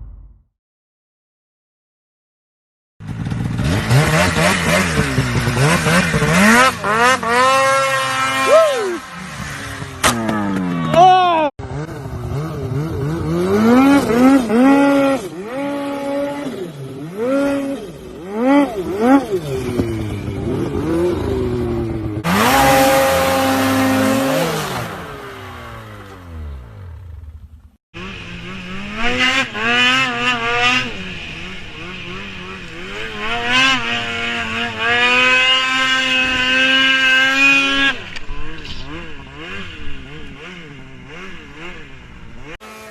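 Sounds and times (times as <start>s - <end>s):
snowmobile engines revving: 3.2s - 27.4s, 28.0s - 42.9s.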